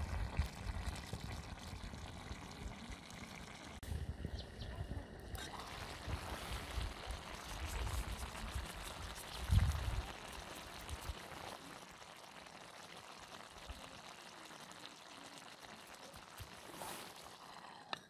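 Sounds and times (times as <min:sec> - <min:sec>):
stew simmering in a pan: 0:00.0 - 0:18.0.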